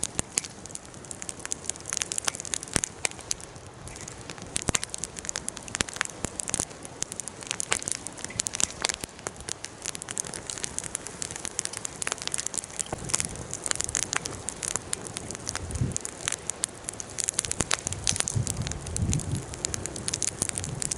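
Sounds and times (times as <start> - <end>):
bonfire crackling and popping: 0.0 - 20.9
fire hissing: 0.4 - 20.9.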